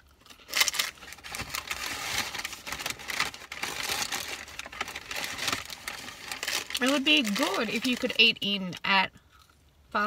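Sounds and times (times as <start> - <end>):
paper bag crinkling: 0.2 - 8.6.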